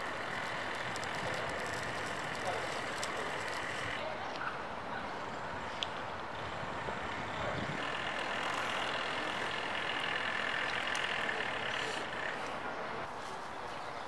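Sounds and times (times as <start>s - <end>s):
road vehicles humming: 0.0s - 14.0s.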